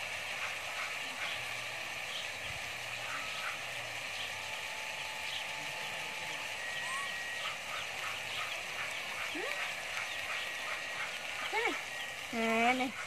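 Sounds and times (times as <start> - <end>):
steady hiss: 0.0 - 13.0
birds chirping: 0.4 - 13.0.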